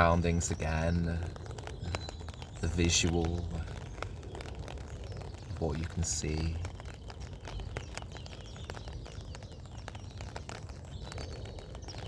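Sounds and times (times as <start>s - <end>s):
faint bird chirps: 0.0s - 12.0s
low rumble of wind: 0.0s - 12.0s
rain drops ticking: 0.0s - 12.0s.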